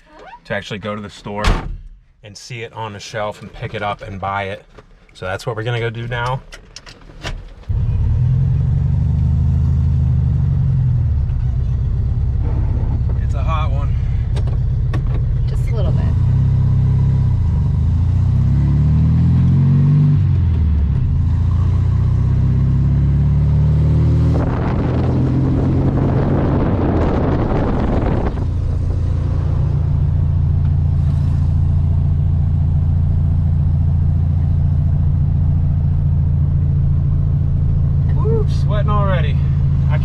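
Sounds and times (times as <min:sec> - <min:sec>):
car engine accelerating: 0:07.7 - 0:40.0.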